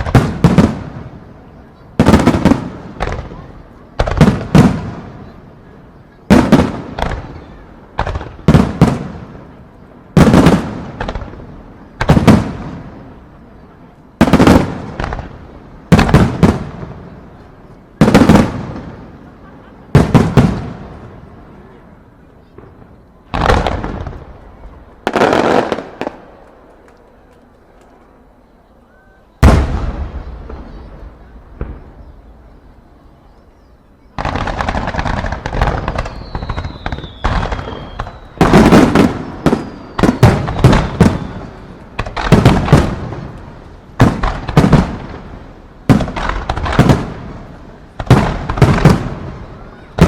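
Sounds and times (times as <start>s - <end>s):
fireworks bangs: 0.0s - 28.0s, 29.1s - 33.0s, 34.0s - 50.0s
fireworks crackling: 0.0s - 28.5s, 29.2s - 33.2s, 34.0s - 50.0s.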